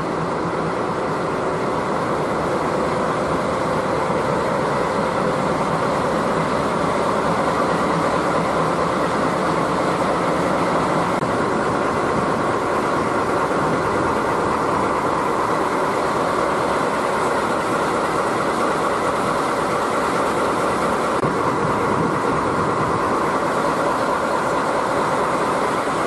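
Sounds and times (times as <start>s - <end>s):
train rushing noise: 0.0s - 26.0s.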